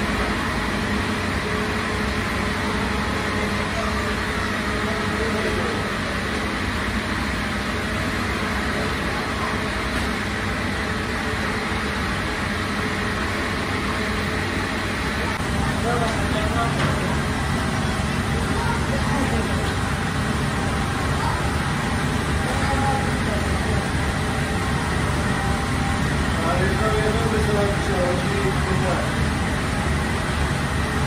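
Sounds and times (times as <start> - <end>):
bakery machine drone: 0.0 - 31.0.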